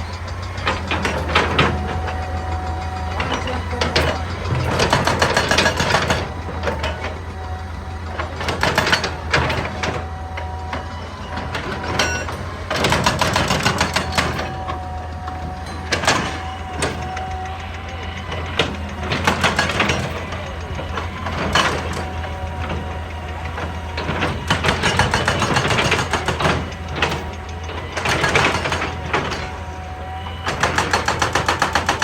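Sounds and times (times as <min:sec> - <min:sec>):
excavator engine running: 0:00.0 - 0:32.0
faint hydraulic whine: 0:00.0 - 0:32.0.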